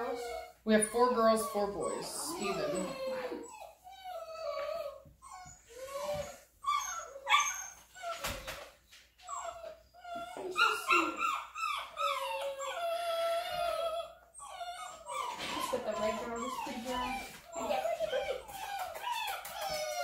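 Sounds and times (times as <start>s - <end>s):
puppies whining and crying: 0.0s - 20.0s.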